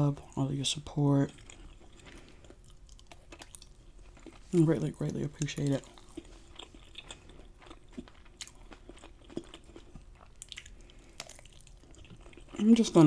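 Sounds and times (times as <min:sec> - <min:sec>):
person chewing food: 0:00.1 - 0:13.0.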